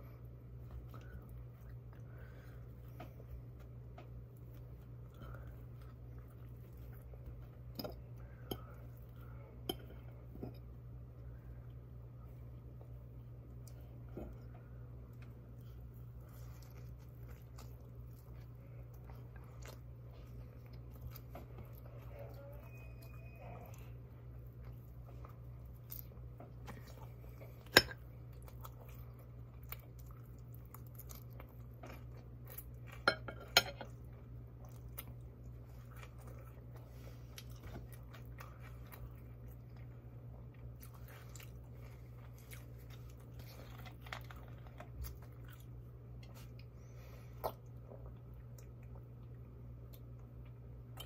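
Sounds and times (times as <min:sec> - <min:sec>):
low hum: 0:00.0 - 0:51.0
chewing and biting food: 0:00.1 - 0:10.8, 0:12.3 - 0:51.0.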